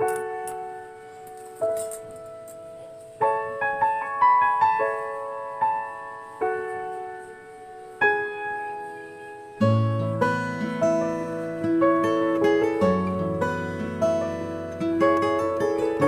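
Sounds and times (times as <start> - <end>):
slow solo piano melody: 0.0 - 16.0.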